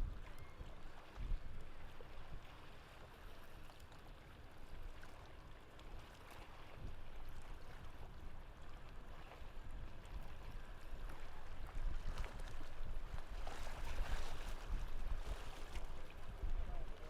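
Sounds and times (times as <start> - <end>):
water sloshing and lapping: 0.0 - 17.0.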